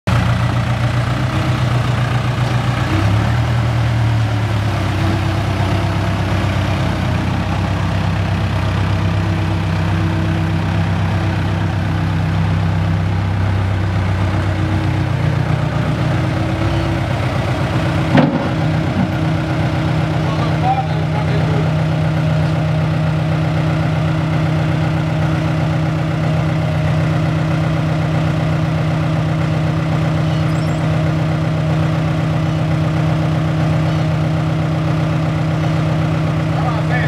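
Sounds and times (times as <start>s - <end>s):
diesel engine at low revs: 0.1s - 37.0s.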